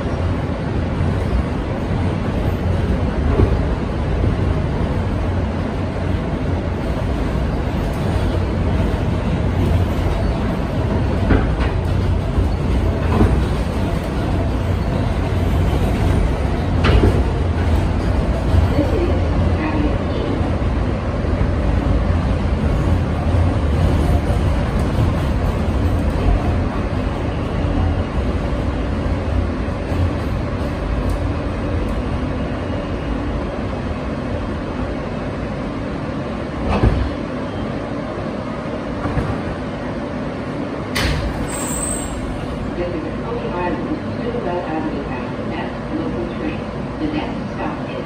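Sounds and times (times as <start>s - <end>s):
subway train wheels rumbling on rails: 0.0s - 48.0s.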